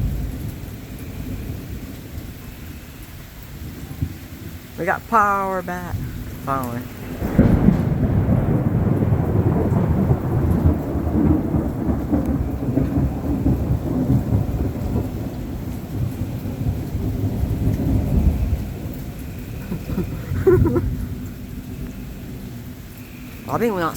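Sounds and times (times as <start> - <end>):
heavy rain falling: 0.0 - 23.9
thunder rumbling: 0.0 - 23.9.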